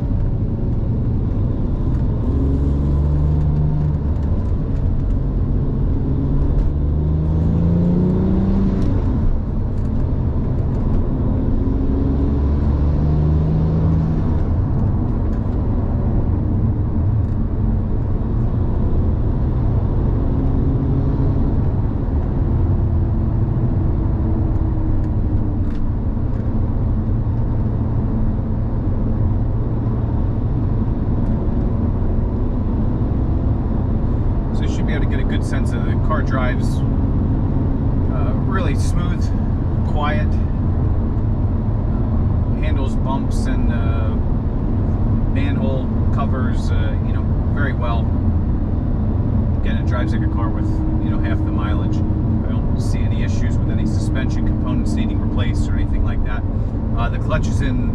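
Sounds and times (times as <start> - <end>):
car engine accelerating: 0.0 - 57.9
road noise: 0.0 - 57.9.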